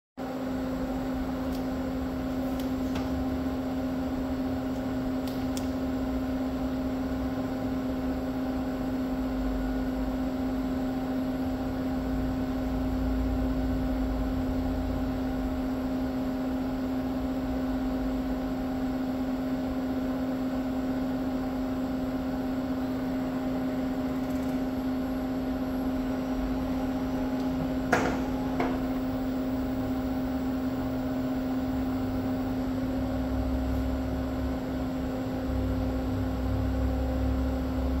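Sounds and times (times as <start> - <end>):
electric machine hum: 0.2 - 38.0.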